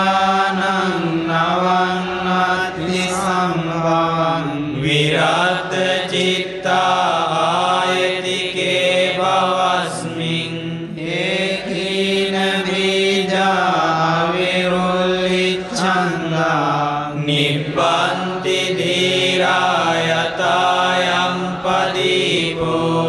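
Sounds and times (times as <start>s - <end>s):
chanting in drawn-out tones: 0.0s - 23.0s.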